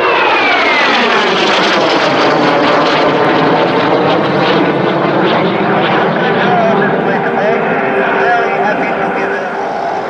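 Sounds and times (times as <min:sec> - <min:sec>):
jet flying past: 0:00.0 - 0:10.0.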